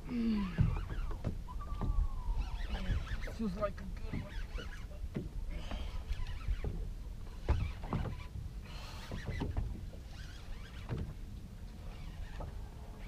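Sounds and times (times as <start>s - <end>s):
waves slapping boat hull: 0.0s - 13.0s.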